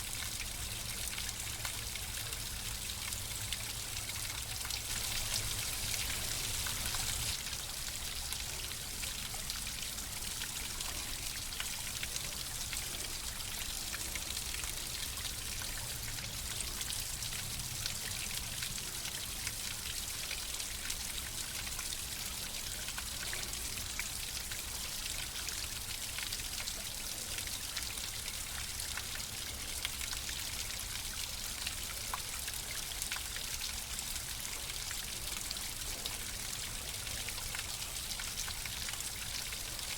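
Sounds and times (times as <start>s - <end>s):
water flowing with splashes: 0.0s - 39.9s.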